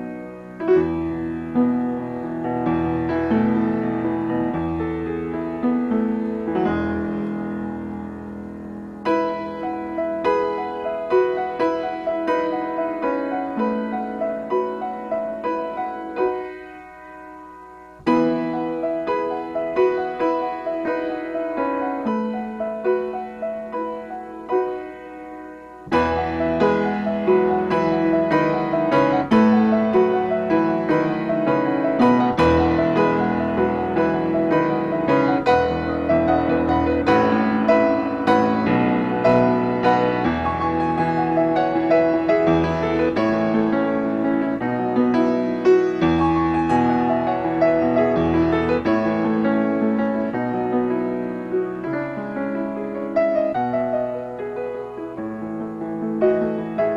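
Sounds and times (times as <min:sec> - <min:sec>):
loud piano chord: 0:00.0 - 0:56.9
solo piano melody: 0:00.0 - 0:56.9.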